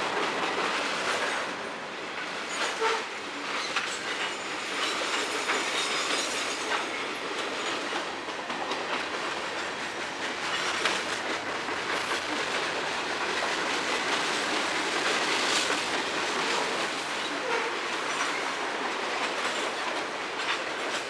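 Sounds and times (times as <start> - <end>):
train wheels rumbling and rattling: 0.0 - 21.0.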